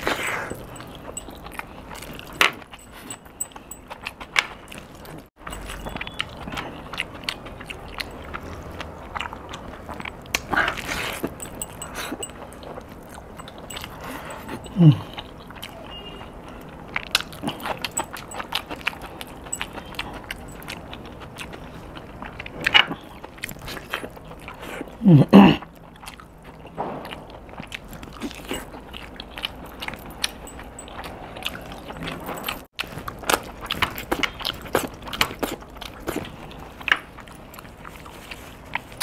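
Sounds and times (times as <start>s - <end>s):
wet chewing and lip smacks: 0.0s - 25.0s, 25.6s - 39.0s.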